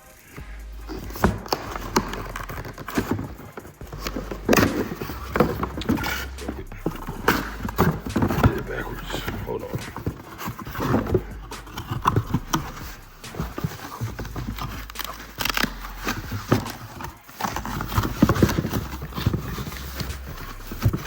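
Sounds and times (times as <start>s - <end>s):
cardboard box being cut and handled: 0.0s - 21.0s.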